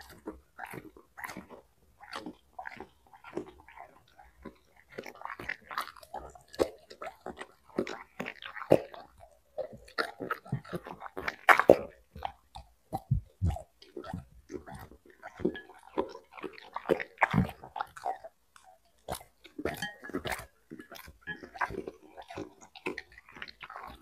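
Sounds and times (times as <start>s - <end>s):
chewing and crunching broccoli: 0.0s - 24.0s.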